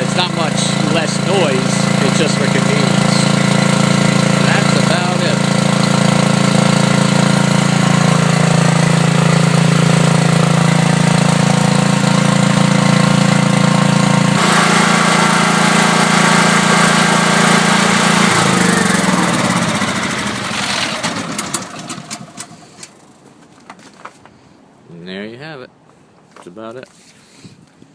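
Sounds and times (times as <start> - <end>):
portable generator running: 0.0 - 23.0.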